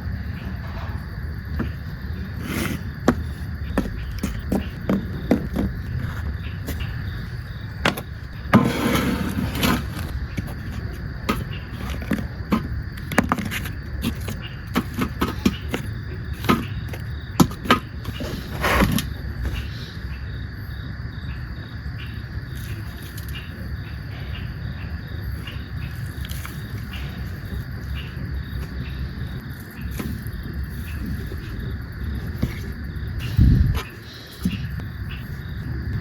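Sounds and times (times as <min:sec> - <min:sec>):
insects chirping: 0:00.0 - 0:36.0
outdoor background noise: 0:00.0 - 0:36.0.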